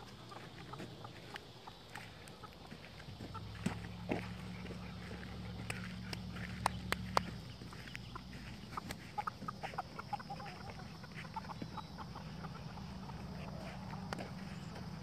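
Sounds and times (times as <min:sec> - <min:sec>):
chickens clucking softly: 0:00.0 - 0:15.0
low steady hum: 0:00.0 - 0:15.0.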